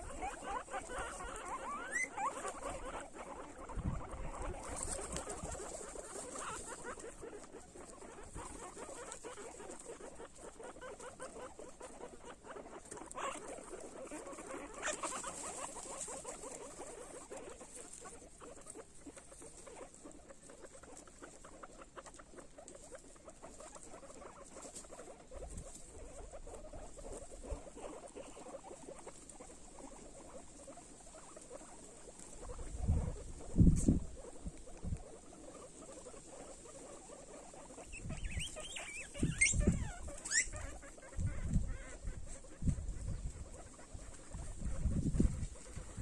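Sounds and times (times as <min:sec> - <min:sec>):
guinea pigs chewing: 0:00.0 - 0:46.0.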